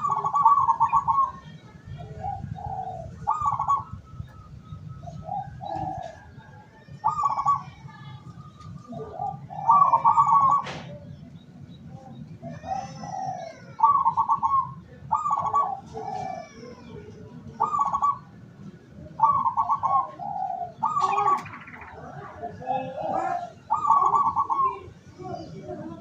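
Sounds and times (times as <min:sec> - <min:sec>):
dove cooing: 0:00.0 - 0:07.9, 0:08.5 - 0:11.3, 0:12.3 - 0:26.0.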